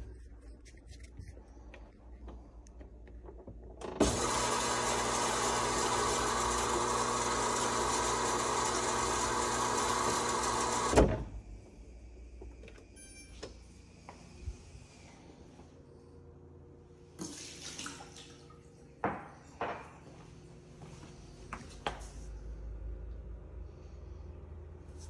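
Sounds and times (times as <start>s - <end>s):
water valve hum: 0.0s - 20.2s.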